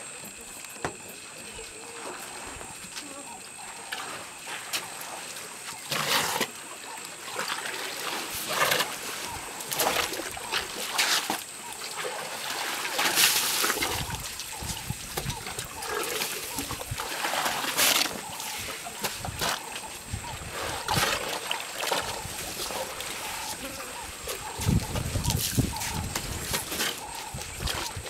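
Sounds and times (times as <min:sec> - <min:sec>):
elephants splashing water: 0:01.2 - 0:28.0.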